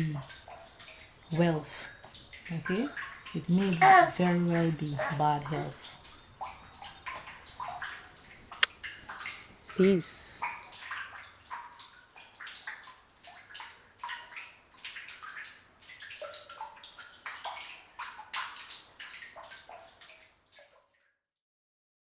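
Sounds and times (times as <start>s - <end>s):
gurgles and drips: 0.0s - 21.0s
water trickling and splashing: 0.0s - 21.2s.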